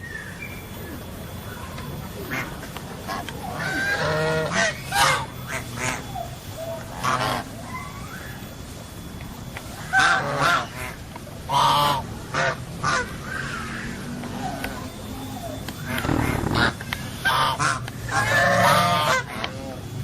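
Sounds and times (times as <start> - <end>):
birds honking: 0.0 - 8.7, 9.7 - 20.0.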